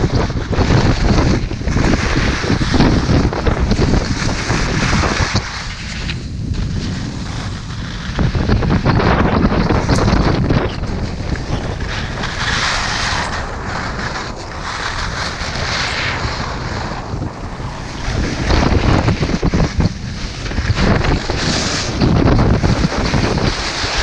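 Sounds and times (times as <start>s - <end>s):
skis scraping on packed snow: 0.0s - 24.0s
wind on camera microphone: 0.0s - 24.0s.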